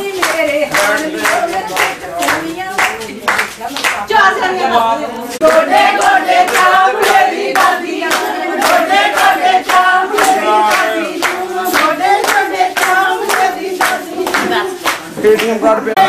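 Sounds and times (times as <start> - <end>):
hand-clapping in time: 0.0 - 4.0, 5.4 - 16.0
women singing together: 0.0 - 16.0.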